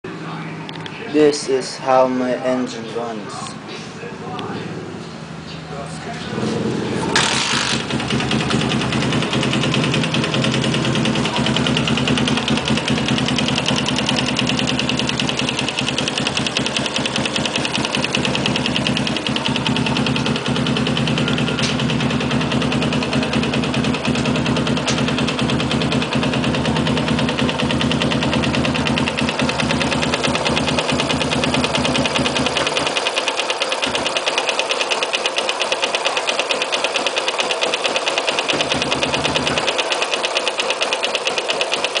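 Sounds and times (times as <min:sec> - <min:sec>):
motorcycle engine running: 0:06.3 - 0:42.0.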